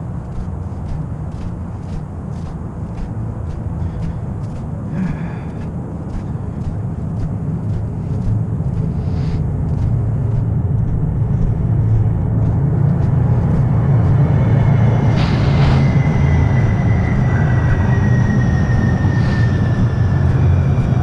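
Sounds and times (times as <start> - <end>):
light-rail train rumble: 0.0 - 21.0.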